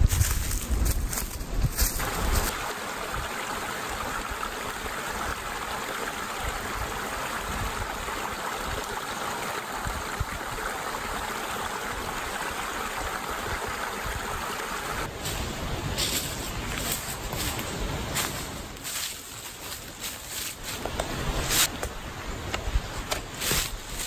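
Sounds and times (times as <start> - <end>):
stream cascading over rocks: 2.0 - 24.0.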